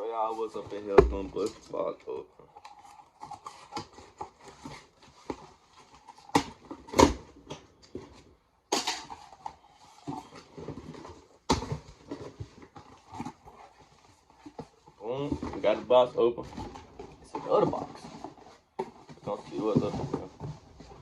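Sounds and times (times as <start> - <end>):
cardboard rustling and scraping: 0.0 - 1.8, 2.5 - 21.0.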